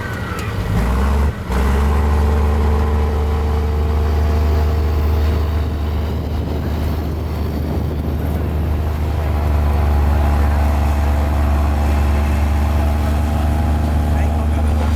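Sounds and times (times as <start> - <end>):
bulldozer diesel engine humming: 0.0 - 14.9.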